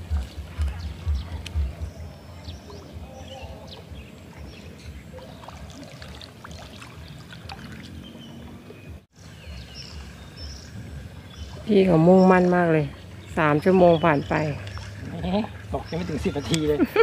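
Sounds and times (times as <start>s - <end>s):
water lapping: 0.0s - 17.0s.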